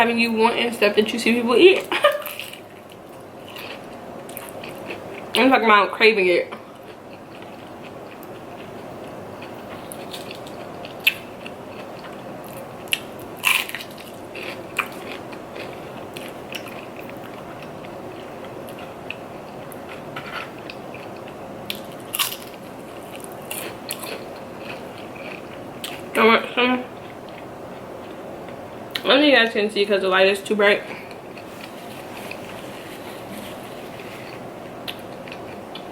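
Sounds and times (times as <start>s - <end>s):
person chewing food: 2.2s - 5.4s, 6.6s - 26.2s, 26.9s - 29.0s, 30.9s - 35.9s.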